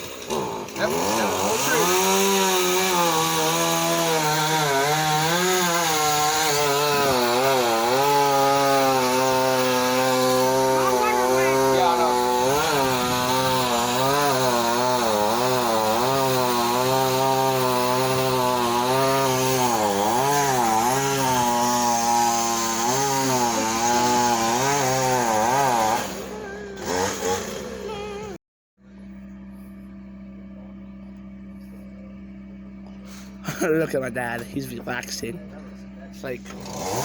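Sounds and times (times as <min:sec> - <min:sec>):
chainsaw cutting wood: 0:00.0 - 0:28.4, 0:31.2 - 0:37.0.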